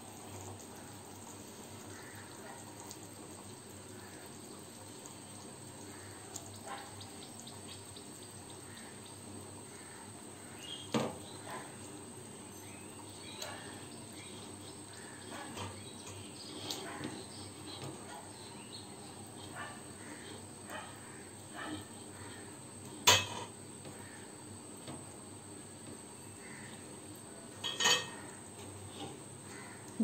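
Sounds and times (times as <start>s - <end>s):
broth simmering in a pan: 0.0s - 30.0s.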